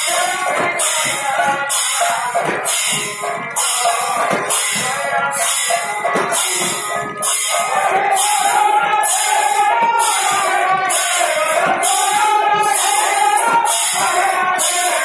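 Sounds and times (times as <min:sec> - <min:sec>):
hand cymbals clashing: 0:00.0 - 0:15.0.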